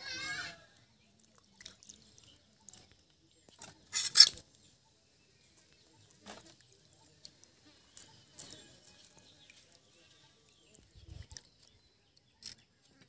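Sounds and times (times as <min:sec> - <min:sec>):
water splashing in a bowl: 0:00.1 - 0:04.7, 0:05.6 - 0:12.8.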